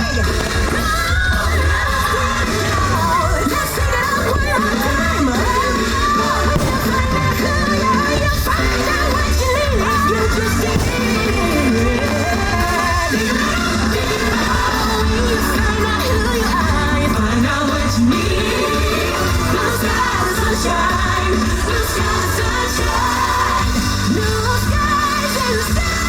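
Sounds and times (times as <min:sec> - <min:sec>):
loud music with singer over bass: 0:00.0 - 0:26.0.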